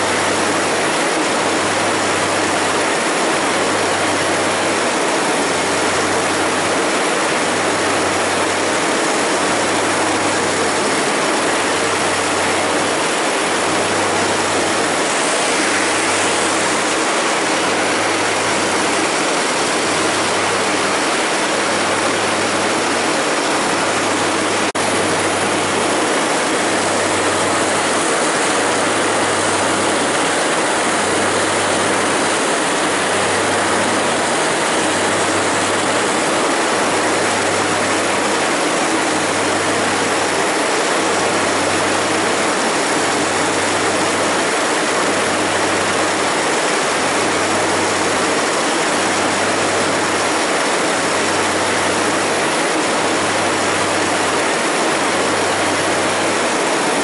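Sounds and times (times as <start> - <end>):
farm machinery running: 0.0 - 57.0.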